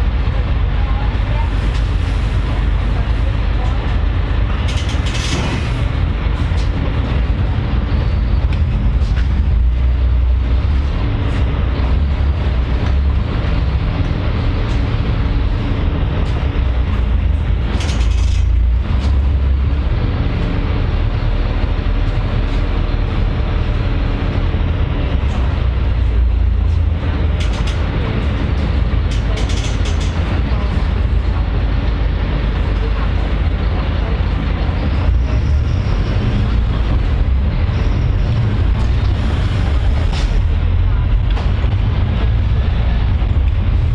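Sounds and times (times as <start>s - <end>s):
vehicle low rumble: 0.0s - 43.9s
rattles and clicks: 1.4s - 19.8s, 24.9s - 43.9s.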